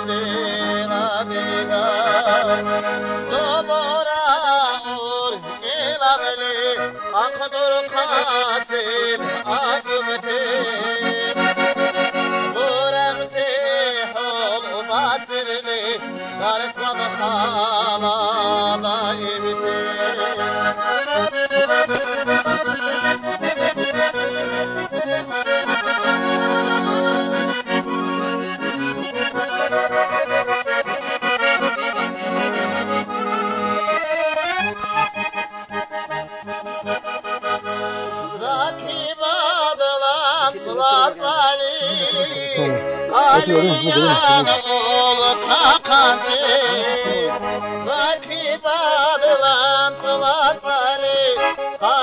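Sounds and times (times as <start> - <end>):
accordion playing folk melody: 0.0 - 52.0.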